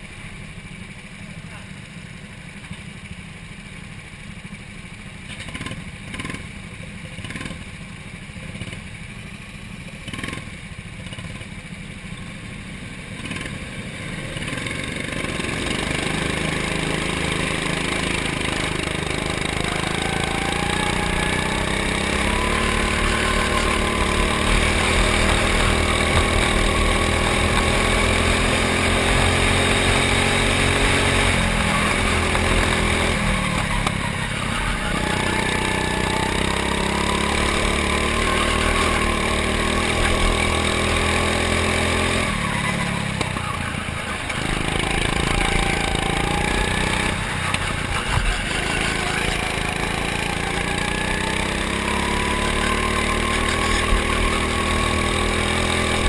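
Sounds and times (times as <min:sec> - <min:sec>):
go-kart engines idling: 0:00.0 - 0:56.0
kart engine revving: 0:05.3 - 0:07.8, 0:08.4 - 0:56.0.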